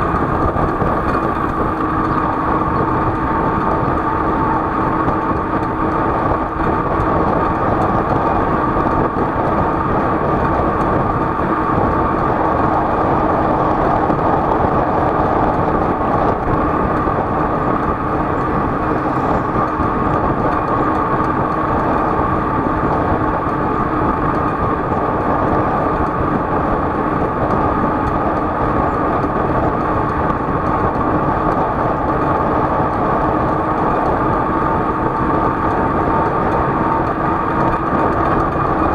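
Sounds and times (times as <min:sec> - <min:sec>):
vehicle running noise: 0:00.0 - 0:38.9.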